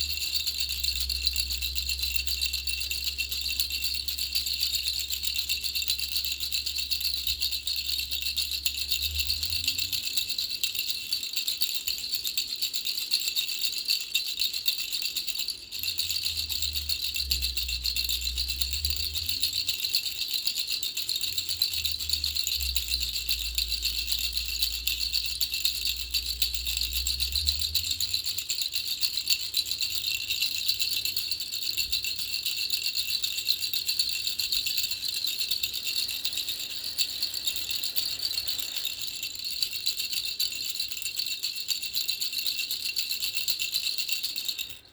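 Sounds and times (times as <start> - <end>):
baby rattle shaking: 0.0 - 44.9.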